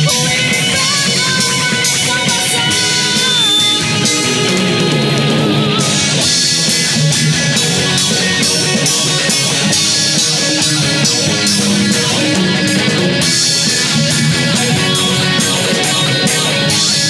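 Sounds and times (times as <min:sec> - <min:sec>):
drums steady beat: 0:00.0 - 0:17.0
rock band playing: 0:00.0 - 0:17.0.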